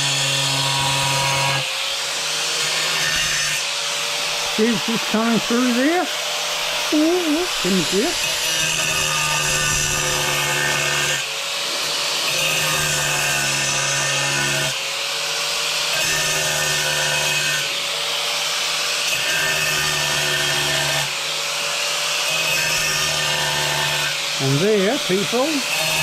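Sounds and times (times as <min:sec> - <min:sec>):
angle grinder cutting tile: 0:00.0 - 0:26.0.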